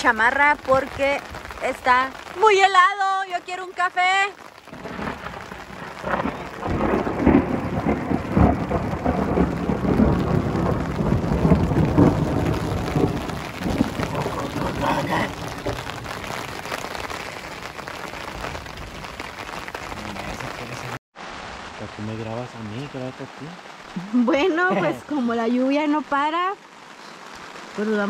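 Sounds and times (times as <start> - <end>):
heavy rain on fabric canopy: 0.0 - 28.0.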